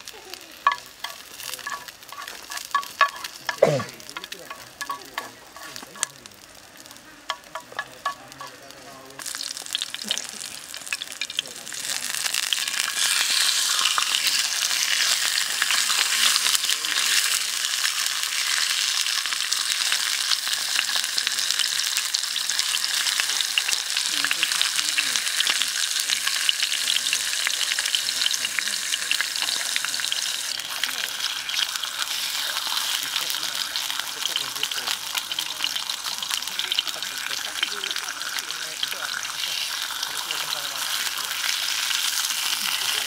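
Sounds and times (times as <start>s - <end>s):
liver sizzling in hot oil: 0.0s - 43.0s.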